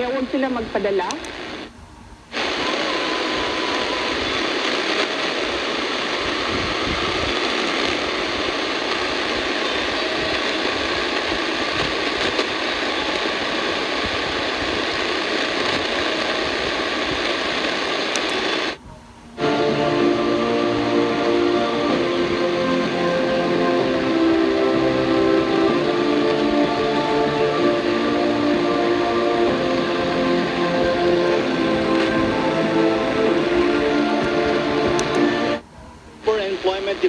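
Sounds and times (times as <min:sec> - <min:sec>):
radio static hiss: 0:00.0 - 0:37.0.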